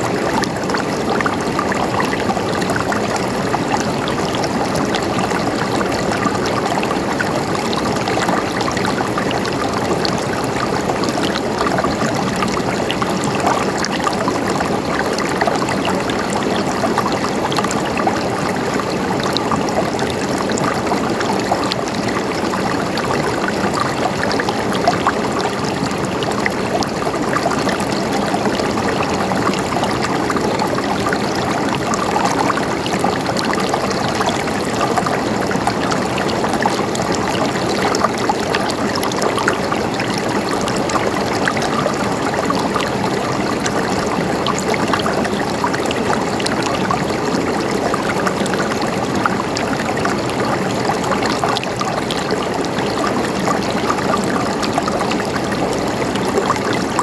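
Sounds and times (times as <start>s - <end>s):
stream gurgling with splashes: 0.0s - 57.0s.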